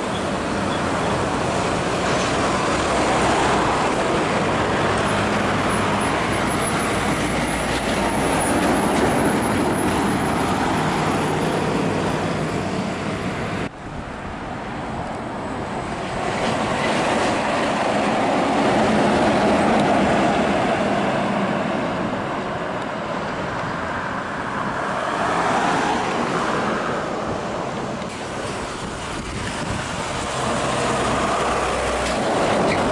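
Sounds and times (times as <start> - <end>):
diesel trucks driving past: 0.0 - 32.9.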